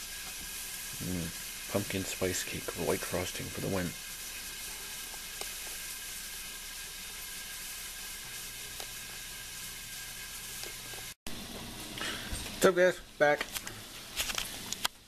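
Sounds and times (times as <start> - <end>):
ground beef sizzling: 0.0 - 15.0.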